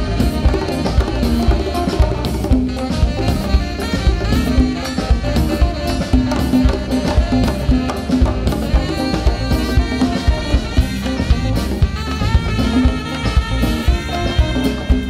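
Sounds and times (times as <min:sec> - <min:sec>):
conga drumming: 0:00.0 - 0:15.0
live band playing: 0:00.0 - 0:15.0
tenor saxophone solo: 0:00.0 - 0:15.0.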